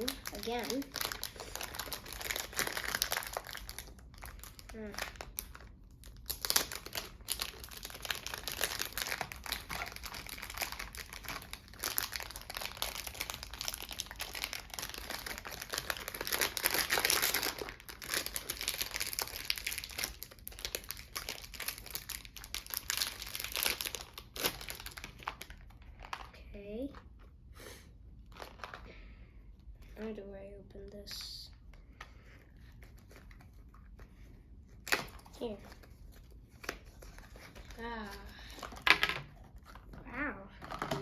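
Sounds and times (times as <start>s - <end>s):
plastic packaging crinkling: 0.0s - 26.4s, 28.2s - 29.0s, 31.6s - 40.0s.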